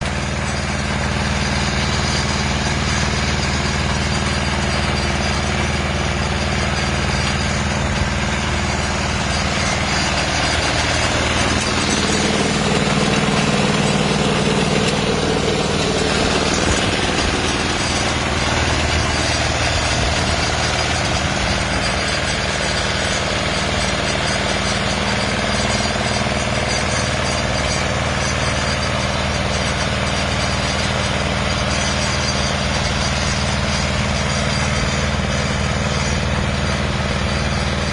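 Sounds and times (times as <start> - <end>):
machine engine running: 0.0 - 37.9.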